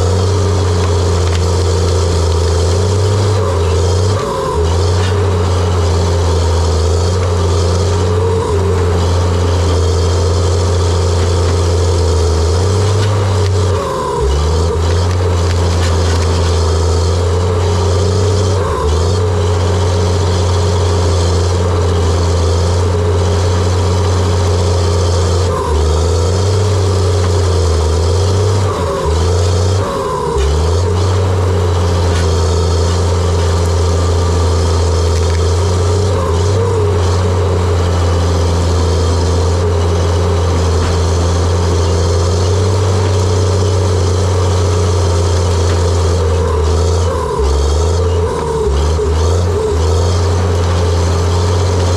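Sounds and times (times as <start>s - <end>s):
dozer diesel engine running: 0.0s - 51.9s.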